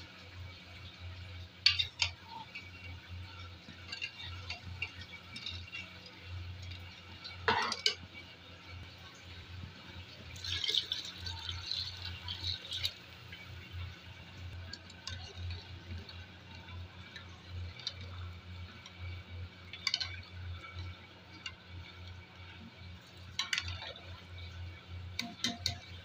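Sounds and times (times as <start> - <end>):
low steady hum: 0.0 - 26.0
water pouring into pot: 0.7 - 26.0.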